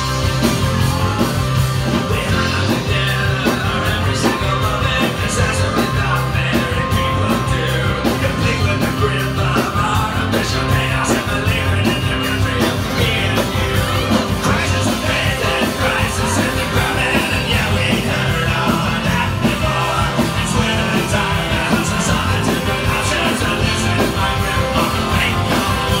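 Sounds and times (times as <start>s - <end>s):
rock music with singing: 0.0s - 26.0s.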